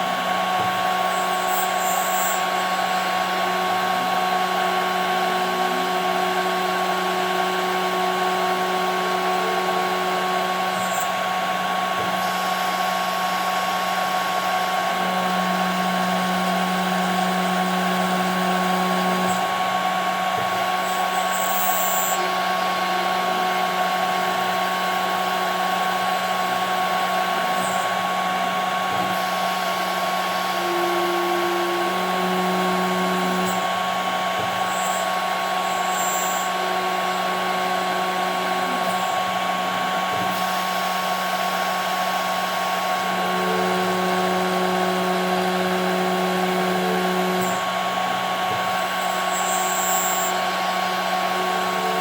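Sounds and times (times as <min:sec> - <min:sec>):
router spindle whining: 0:00.0 - 0:52.0.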